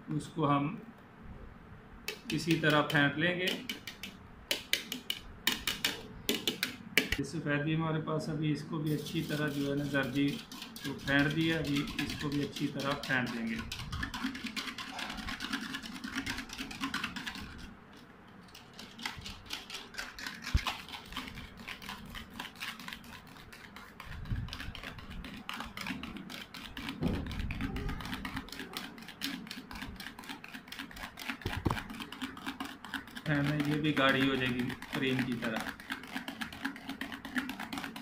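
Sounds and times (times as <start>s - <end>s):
whisk clicking against metal bowl: 2.1s - 7.2s, 8.9s - 17.7s, 18.4s - 38.0s.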